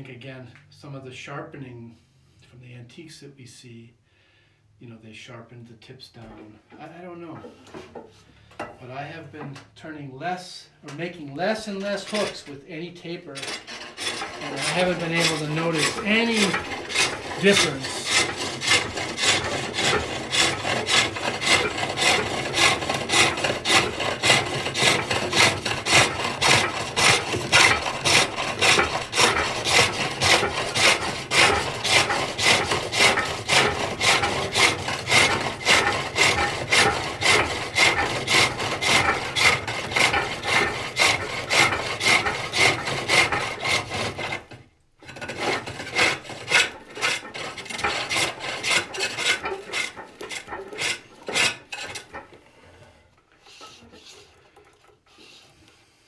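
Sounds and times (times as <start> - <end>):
hook tool scraping wood on lathe: 10.8 - 55.9.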